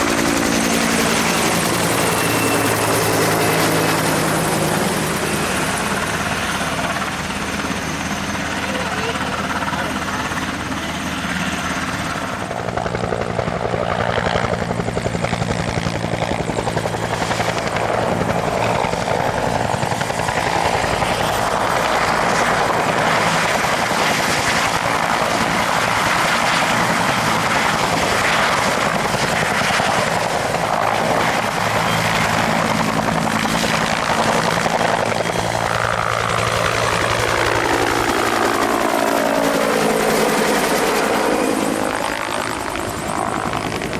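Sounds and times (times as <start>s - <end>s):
helicopter rotor chopping: 0.0s - 43.9s
helicopter turbine whine: 0.0s - 43.9s.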